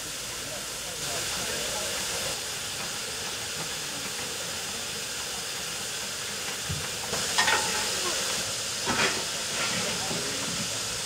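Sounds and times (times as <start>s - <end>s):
locomotive steam hissing: 0.0s - 11.0s.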